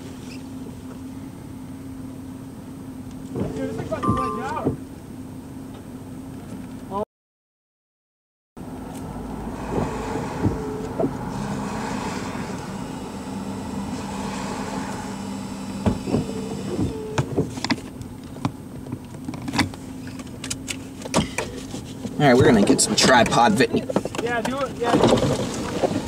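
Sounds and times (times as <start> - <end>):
vehicle cabin hum with engine running: 0.0 - 7.0, 8.6 - 26.0.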